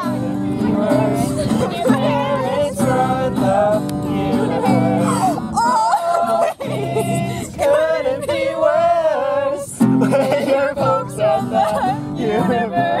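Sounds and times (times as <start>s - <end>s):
acoustic guitar: 0.0s - 13.0s
voices singing along: 0.0s - 13.0s.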